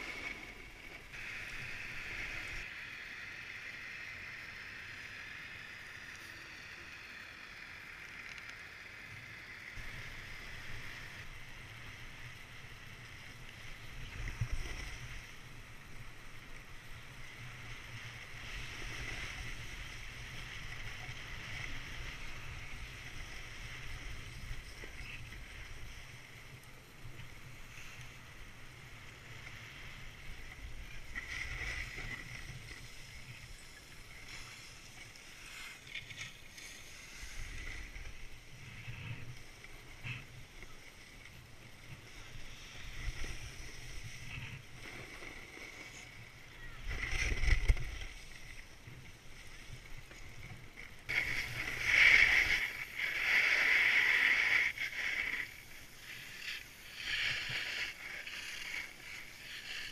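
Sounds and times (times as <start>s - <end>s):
skis scraping on snow: 0.0s - 7.4s, 8.7s - 59.9s.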